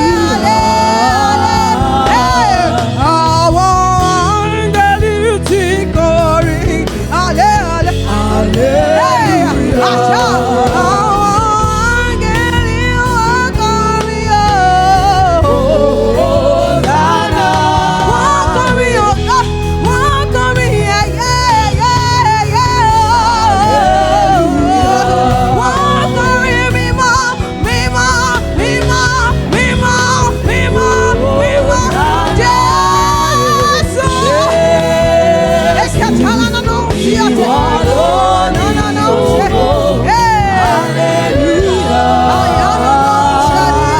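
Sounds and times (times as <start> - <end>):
gospel worship song with band: 0.0 - 43.9.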